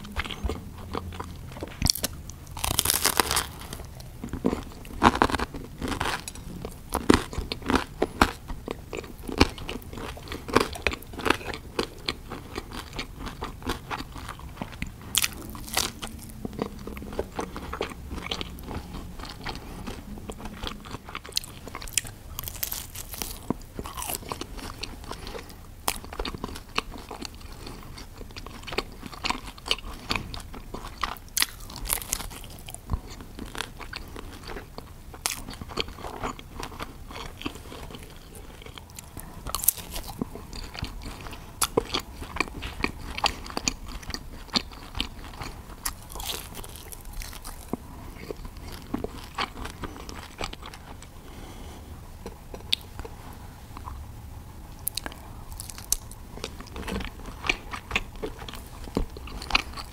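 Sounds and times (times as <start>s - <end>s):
crunchy chewing: 0.0s - 54.1s, 54.7s - 59.9s.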